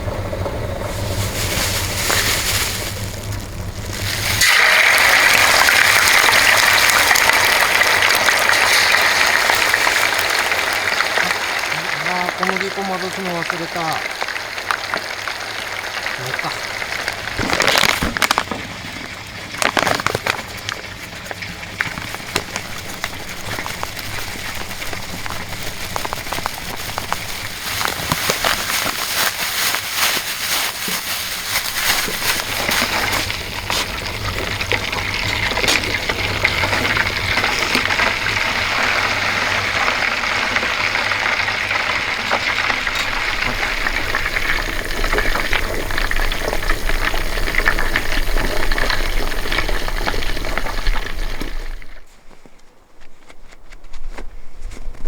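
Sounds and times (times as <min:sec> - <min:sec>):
chicken deep-frying in oil: 0:00.0 - 0:52.1.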